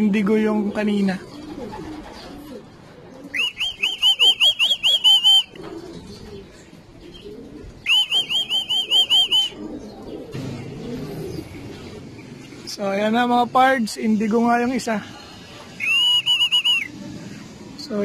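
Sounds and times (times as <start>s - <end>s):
bird chirping: 3.2s - 17.9s.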